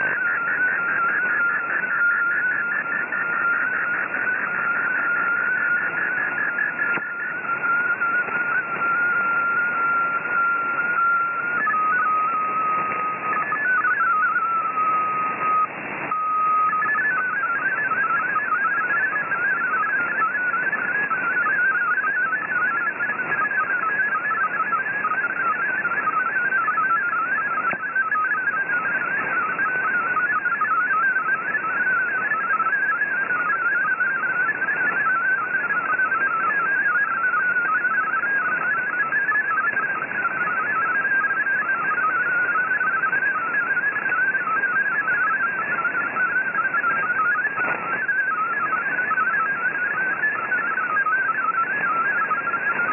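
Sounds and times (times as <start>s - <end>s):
static hiss: 0.0s - 52.9s.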